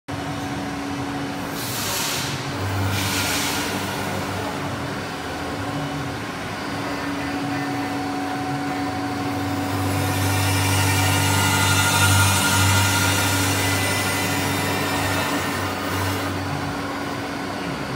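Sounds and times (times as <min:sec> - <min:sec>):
milling machine humming: 0:00.1 - 0:17.9
steady machine tone: 0:02.6 - 0:17.9.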